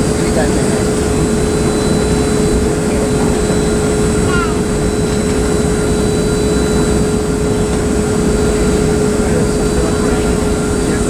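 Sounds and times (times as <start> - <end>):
aircraft cabin rumble: 0.0 - 11.0
constant cabin hum: 0.0 - 11.0.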